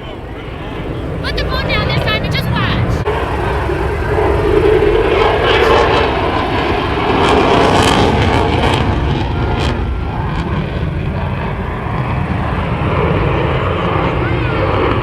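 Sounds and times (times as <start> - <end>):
aircraft engine noise: 0.0 - 15.0.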